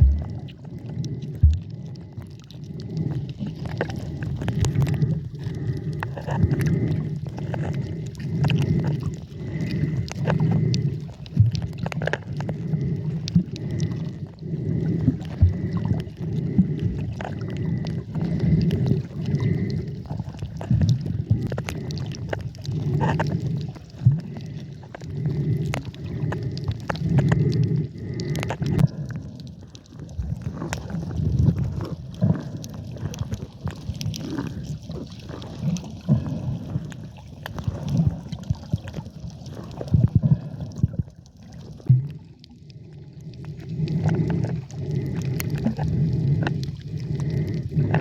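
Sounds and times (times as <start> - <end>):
underwater water sloshing: 0.0 - 48.0.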